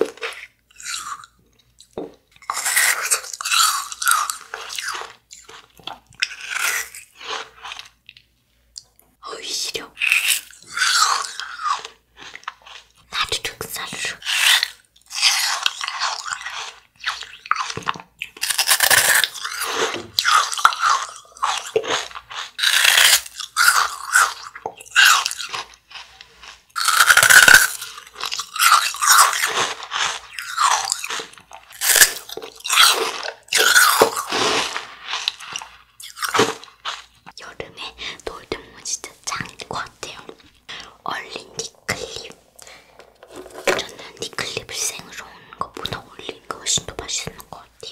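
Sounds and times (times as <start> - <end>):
crunching and chewing hard candy: 0.0 - 47.9.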